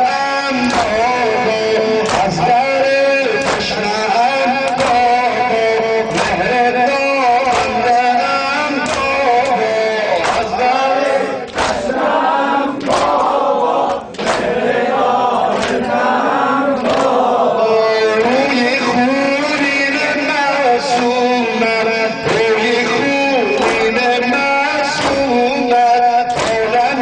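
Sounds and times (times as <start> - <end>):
mourners striking chests in unison: 0.0 - 27.0
person chanting a lament: 0.0 - 27.0.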